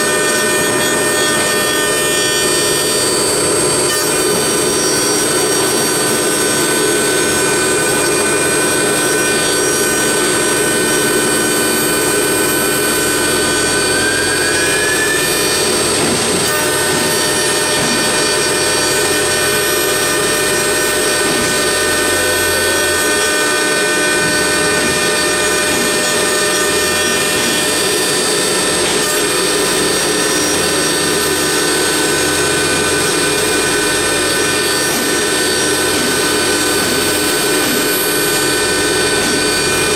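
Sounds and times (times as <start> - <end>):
cutter carving wood: 0.0 - 39.9
router spindle whining: 0.0 - 39.9.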